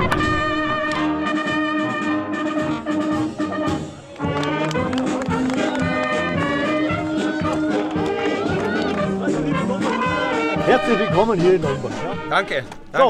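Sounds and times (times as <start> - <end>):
brass band sustained chords: 0.0 - 13.0.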